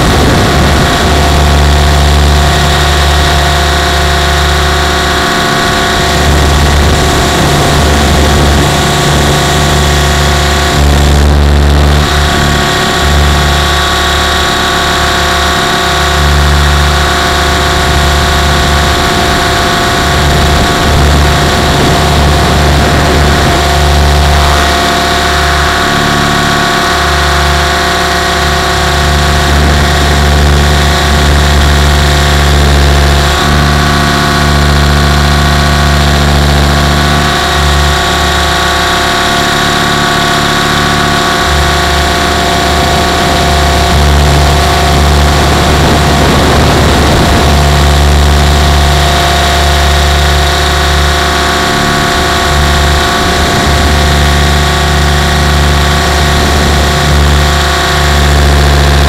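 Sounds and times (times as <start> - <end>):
motor and gear whine: 0.0 - 59.0
rotor throbbing rumble: 0.0 - 59.0.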